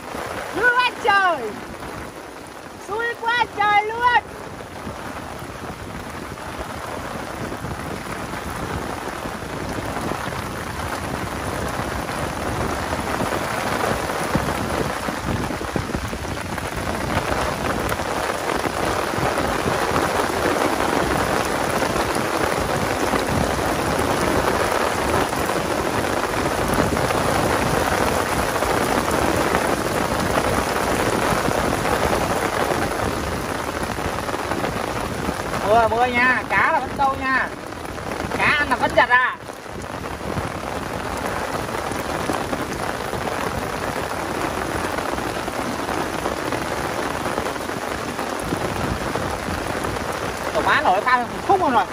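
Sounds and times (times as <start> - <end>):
heavy rain on an umbrella: 0.0 - 51.9.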